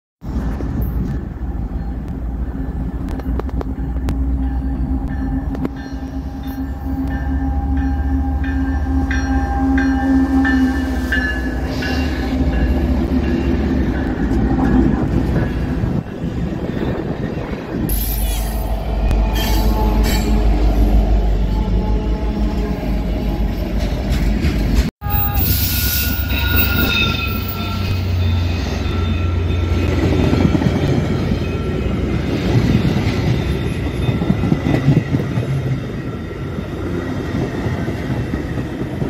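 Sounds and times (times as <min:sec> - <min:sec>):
freight train engine and wheel rumble: 0:00.2 - 0:39.0.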